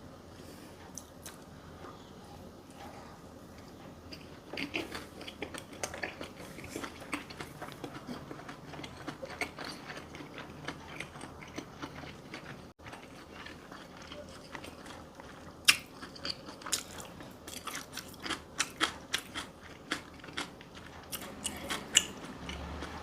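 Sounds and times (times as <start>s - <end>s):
chewing and biting food: 3.6s - 23.0s.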